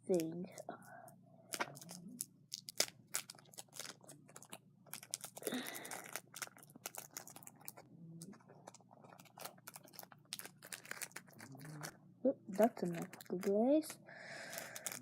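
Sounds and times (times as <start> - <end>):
small clicks and crinkles of slime: 0.0 - 15.0
slime rustling: 1.5 - 15.0.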